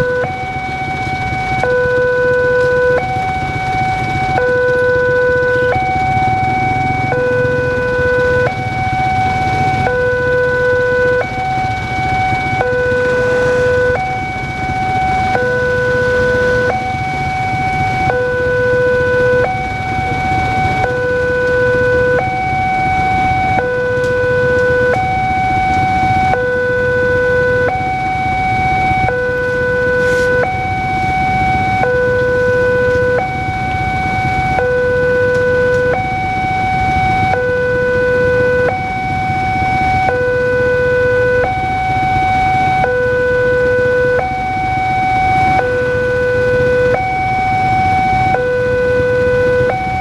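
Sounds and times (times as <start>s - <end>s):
traffic engine rumble: 0.0s - 50.0s
two-tone level crossing siren: 0.0s - 50.0s.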